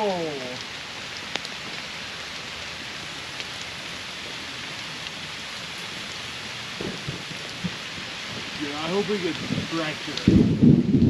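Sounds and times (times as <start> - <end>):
raindrops ticking: 0.0 - 11.0
steady rain falling: 0.0 - 11.0.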